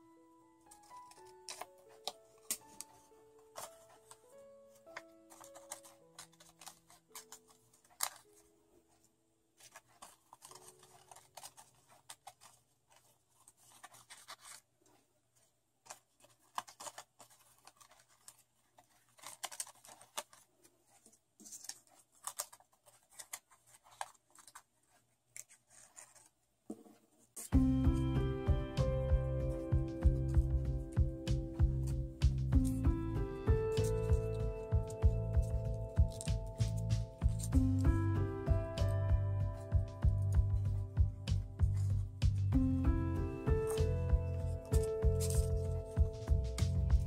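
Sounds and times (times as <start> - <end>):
paper crinkling and clicking: 0.4 - 47.0.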